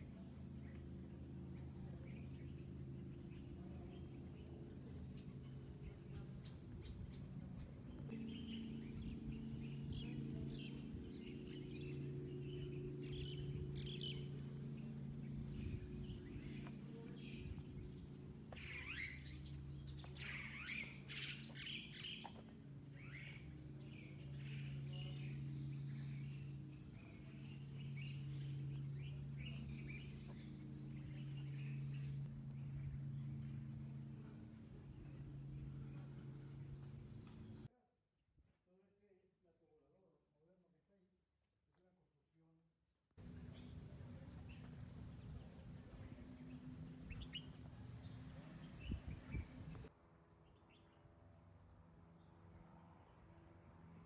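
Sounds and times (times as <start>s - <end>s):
low steady hum of held tones: 0.0s - 37.7s, 43.2s - 54.0s
small birds chirping: 0.0s - 37.7s, 43.2s - 51.0s.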